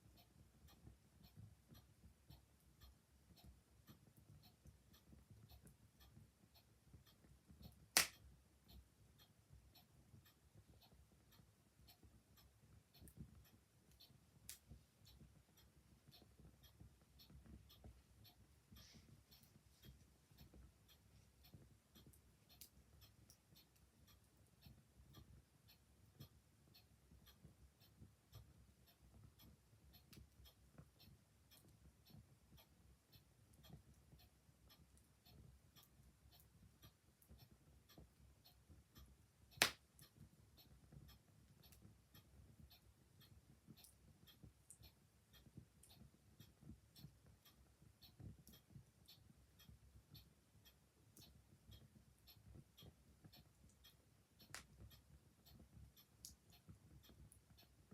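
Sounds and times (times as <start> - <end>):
clock ticking: 0.0 - 57.9.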